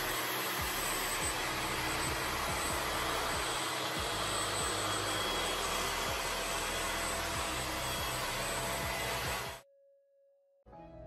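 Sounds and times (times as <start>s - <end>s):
robot vacuum whirring: 0.0s - 9.6s.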